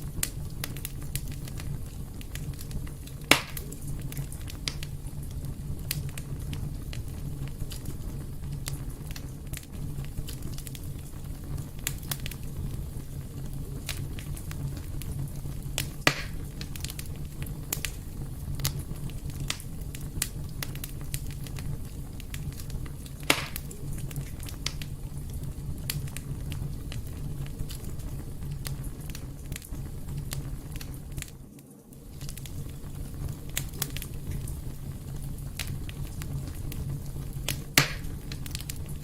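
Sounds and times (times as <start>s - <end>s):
fire crackling in fireplace: 0.0s - 39.0s
sharp fire pops: 0.0s - 39.0s.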